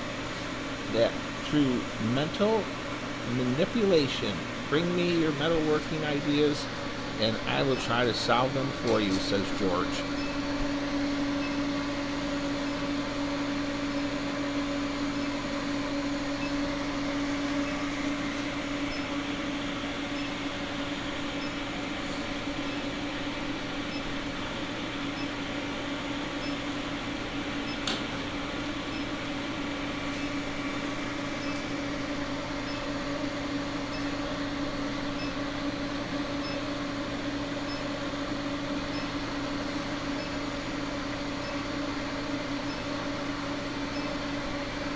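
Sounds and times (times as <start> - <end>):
steady machine hum: 0.0 - 44.9.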